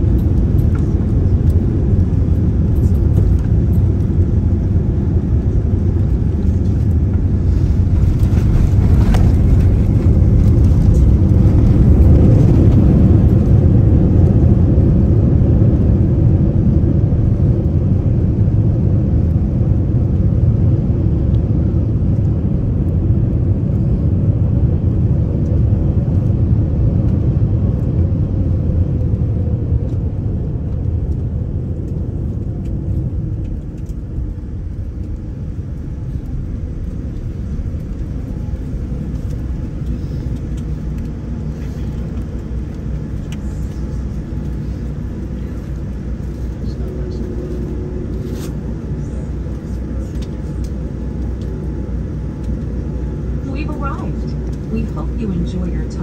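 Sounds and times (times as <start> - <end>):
jet airliner cabin rumble: 0.0 - 56.0.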